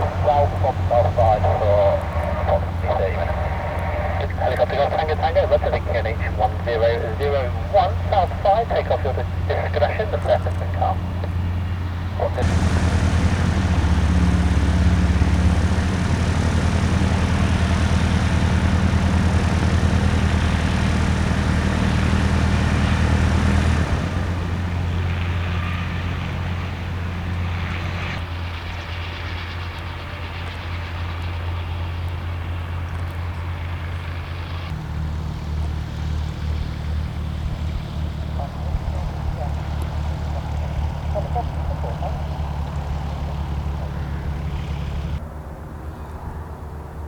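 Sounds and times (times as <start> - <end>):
propeller aircraft engine drone: 0.0 - 47.0.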